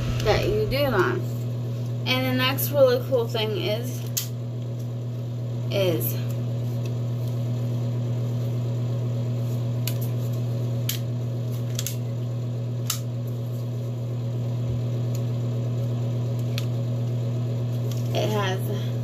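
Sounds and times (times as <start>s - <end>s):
mini fan humming: 0.0s - 19.0s.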